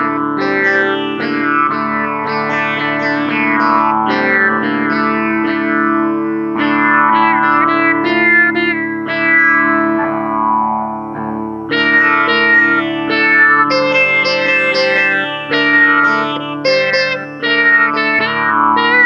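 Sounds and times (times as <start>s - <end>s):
open strings droning: 0.0s - 19.0s
plucked sitar-like guitar melody: 0.0s - 19.0s.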